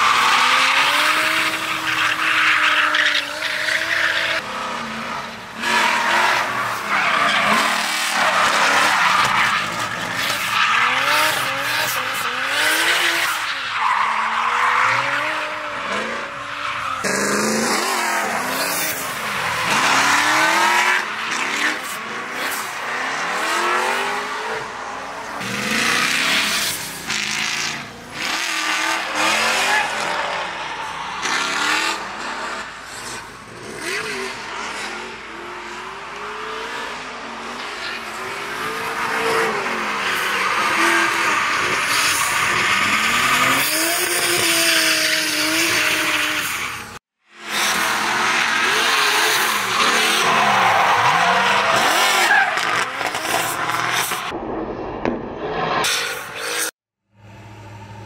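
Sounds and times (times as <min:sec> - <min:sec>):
car engines revving: 0:00.0 - 0:54.4.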